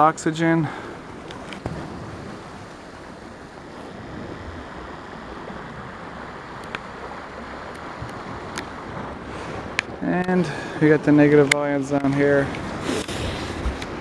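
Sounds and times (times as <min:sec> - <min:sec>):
ocean surf: 0:00.0 - 0:14.0
wind: 0:00.0 - 0:14.0.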